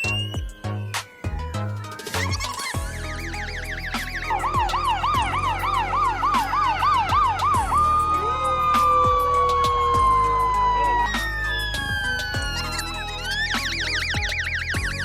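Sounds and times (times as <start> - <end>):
fire truck sirens: 2.8 - 15.0.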